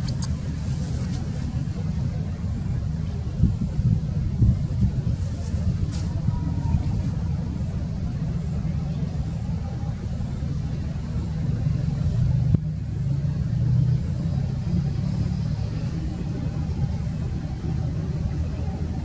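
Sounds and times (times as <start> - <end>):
ferry engines droning: 0.0 - 19.0.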